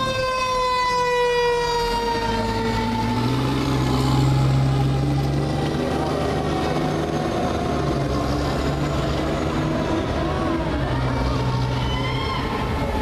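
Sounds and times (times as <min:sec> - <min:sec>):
fire engine siren winding down: 0:00.0 - 0:13.0
truck engine passing: 0:00.0 - 0:13.0.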